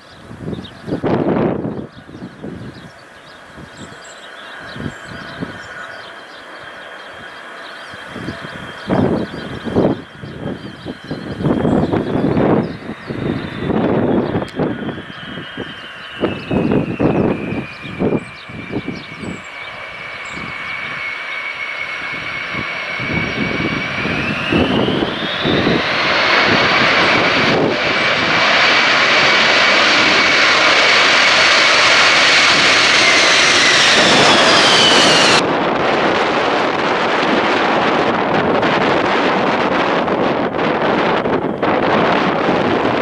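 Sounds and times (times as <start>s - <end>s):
jet engines whining: 0.0s - 43.0s
wind buffeting microphone: 0.0s - 43.0s.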